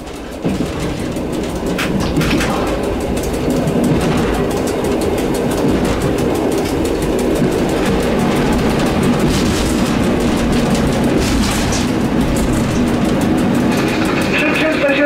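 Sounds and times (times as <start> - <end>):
rapid fine clicking: 0.0 - 15.0
train wheels rumbling on rail: 0.0 - 15.0.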